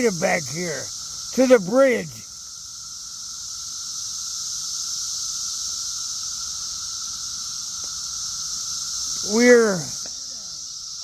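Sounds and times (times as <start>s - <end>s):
cicadas chorusing: 0.0s - 11.0s.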